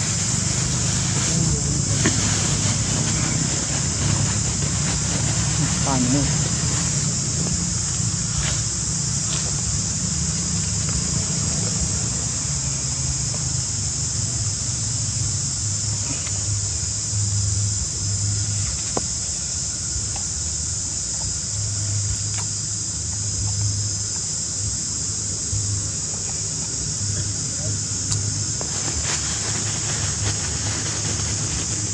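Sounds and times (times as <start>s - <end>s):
high-pitched insect drone: 0.0s - 31.9s.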